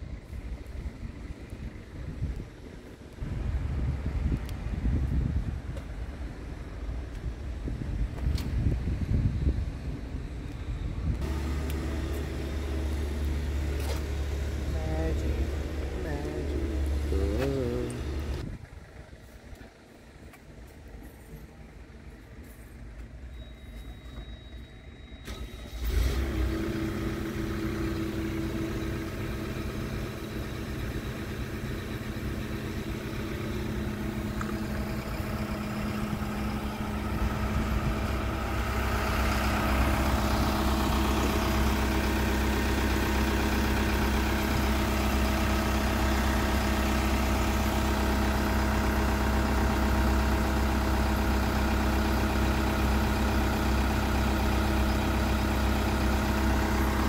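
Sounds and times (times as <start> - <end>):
diesel truck engine starting and idling: 0.0 - 57.0.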